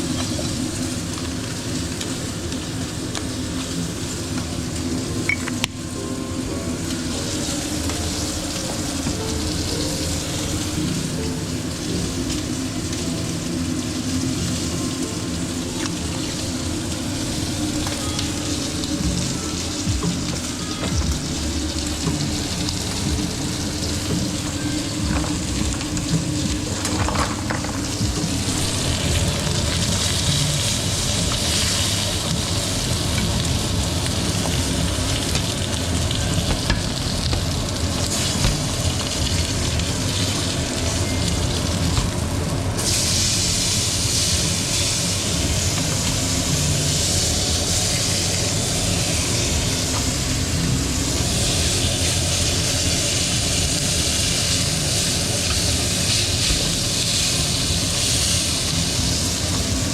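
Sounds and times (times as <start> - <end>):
steak sizzling in pan: 0.0 - 59.9.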